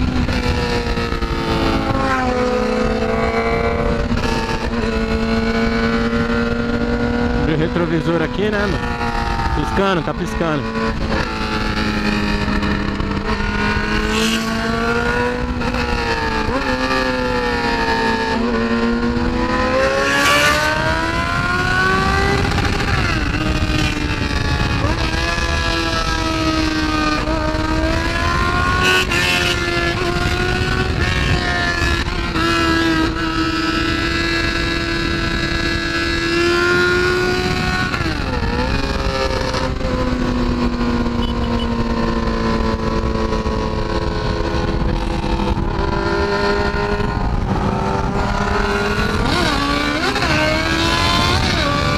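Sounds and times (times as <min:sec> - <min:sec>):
motorcycle engine revving: 0:00.0 - 0:51.9
wind rush on microphone: 0:00.0 - 0:51.9.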